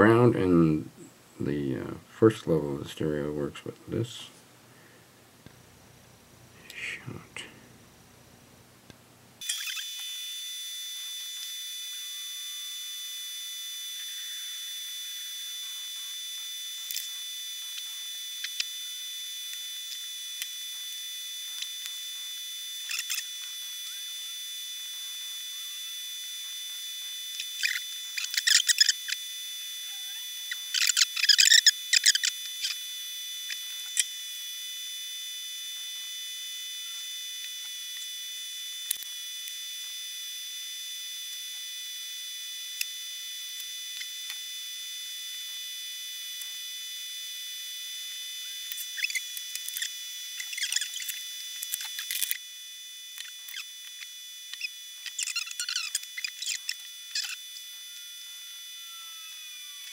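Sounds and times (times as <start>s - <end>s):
high-pitched electronic whine: 9.4s - 59.9s.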